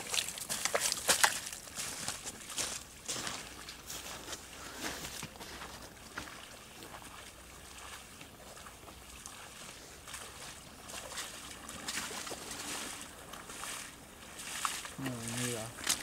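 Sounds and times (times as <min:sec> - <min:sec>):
waders sloshing through water: 0:00.0 - 0:16.0.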